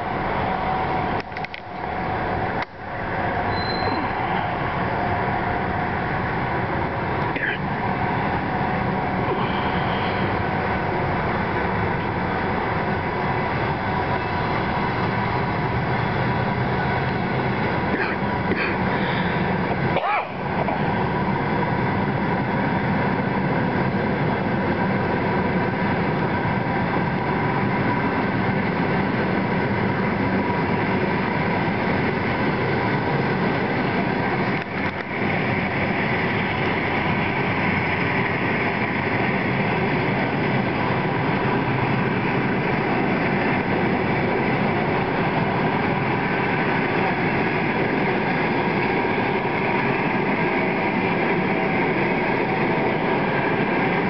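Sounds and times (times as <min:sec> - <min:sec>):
train coaches rolling past: 0:00.0 - 0:54.0
wheels on rails: 0:00.0 - 0:54.0.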